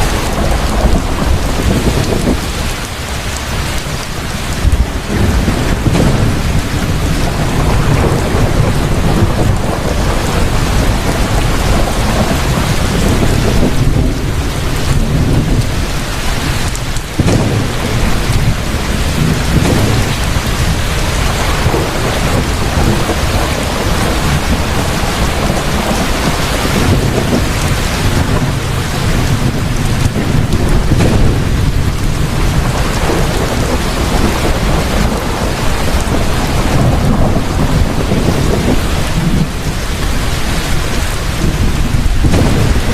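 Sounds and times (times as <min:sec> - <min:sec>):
deep rumble of thunder: 0:00.0 - 0:42.9
heavy rain pouring: 0:00.0 - 0:42.9.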